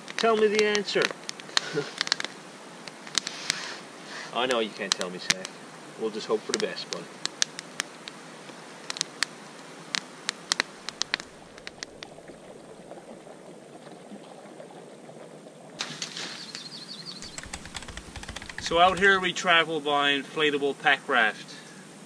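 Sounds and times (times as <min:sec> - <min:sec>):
campfire crackling: 0:00.0 - 0:13.8, 0:15.8 - 0:19.7
low steady hiss: 0:00.0 - 0:22.0.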